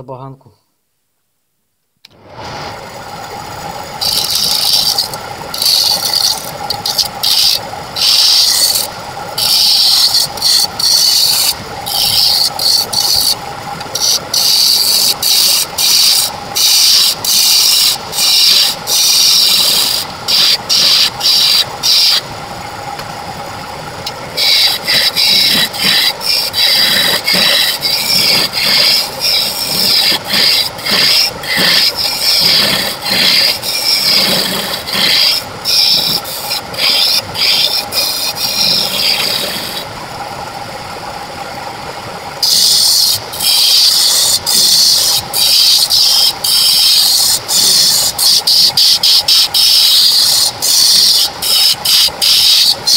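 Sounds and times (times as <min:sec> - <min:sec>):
wood lathe motor hum: 0:02.1 - 0:52.9
turning tool scraping wood: 0:04.0 - 0:22.2, 0:24.4 - 0:39.9, 0:42.4 - 0:52.9.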